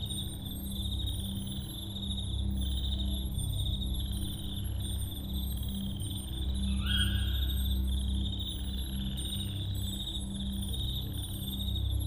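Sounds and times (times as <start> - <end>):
cricket trill: 0.0 - 12.0
droning ambient music pad: 0.0 - 12.0.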